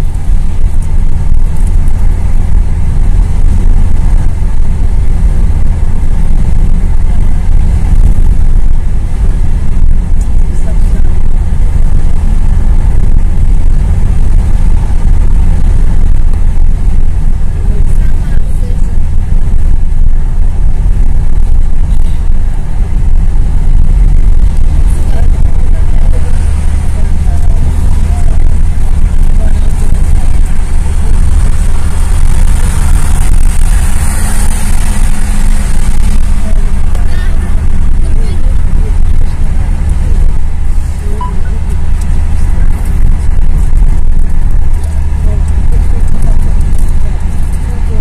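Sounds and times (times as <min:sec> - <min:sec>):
car engine: 0:00.0 - 0:48.0
tyre and road noise: 0:00.0 - 0:48.0.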